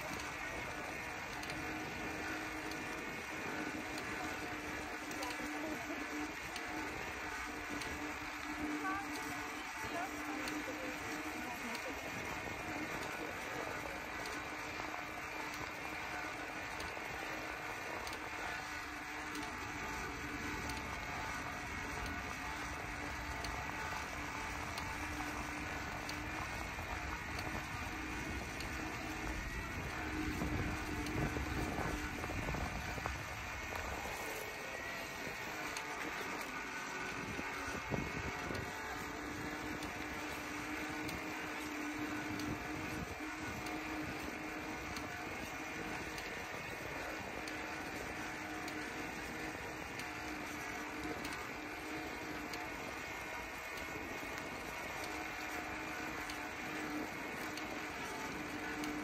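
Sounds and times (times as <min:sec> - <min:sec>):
bicycle rolling noise: 0:00.0 - 0:59.0
faint ticks: 0:00.0 - 0:59.0.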